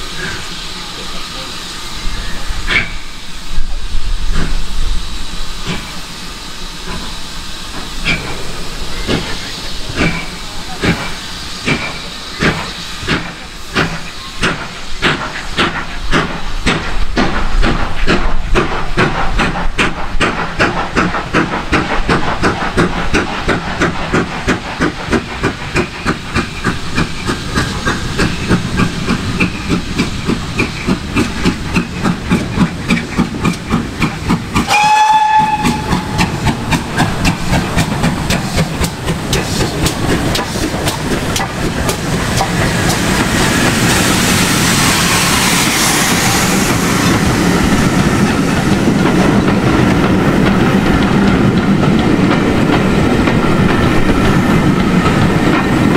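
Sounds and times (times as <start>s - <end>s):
hiss of escaping steam: 0.0s - 55.9s
steam locomotive exhaust beats: 0.0s - 55.9s.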